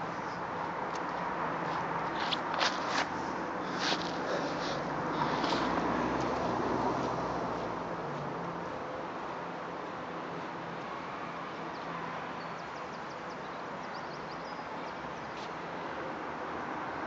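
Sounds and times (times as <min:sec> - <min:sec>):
distant traffic: 0:00.0 - 0:17.0.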